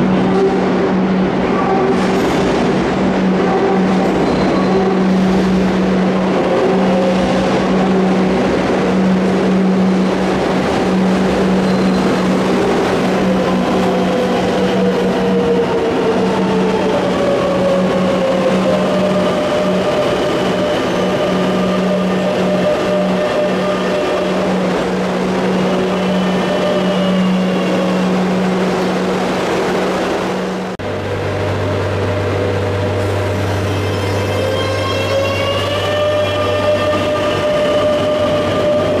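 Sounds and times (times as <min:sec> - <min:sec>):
train hum and rumble: 0:00.0 - 0:39.0.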